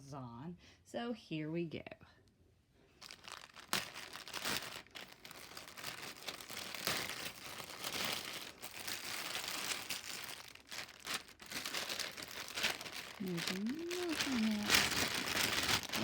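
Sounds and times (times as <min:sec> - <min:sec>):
packaging crinkling and rustling: 0:02.9 - 0:16.0.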